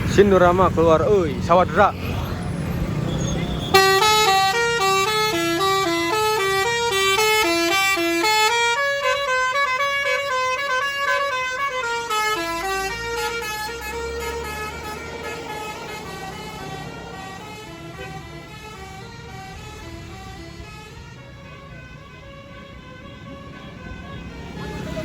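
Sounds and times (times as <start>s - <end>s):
bus engine: 0.0s - 25.0s
musical bus horn melody: 3.5s - 25.0s.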